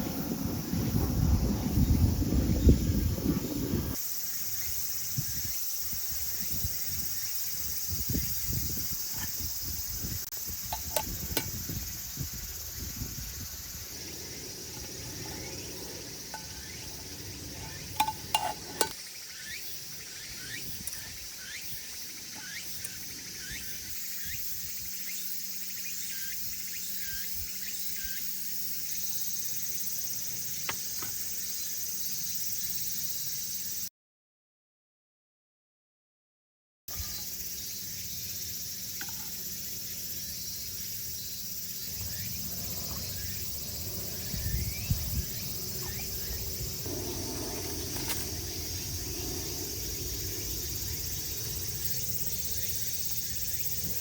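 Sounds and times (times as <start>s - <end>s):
insects shrilling: 0.2s - 33.8s, 36.9s - 54.0s.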